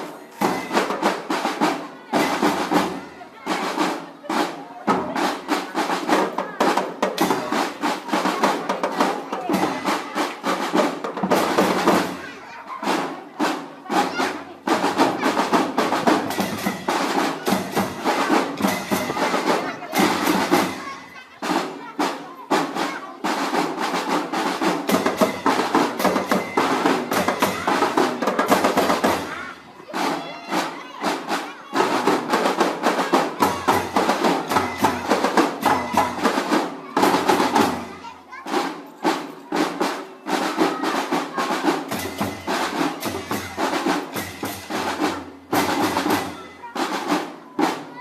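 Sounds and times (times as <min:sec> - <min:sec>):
marching drums playing: 0:00.0 - 0:48.0.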